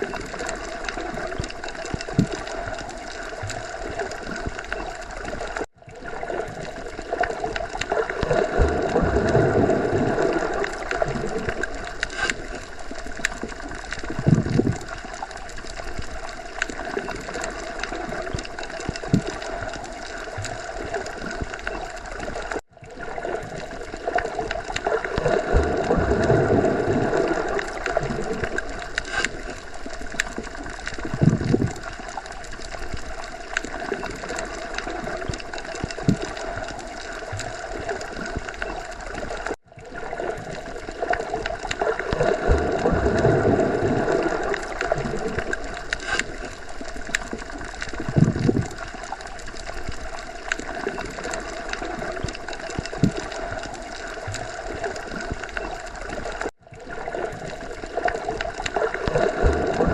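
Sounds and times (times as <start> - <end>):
muffled underwater water wash: 0.0 - 59.9.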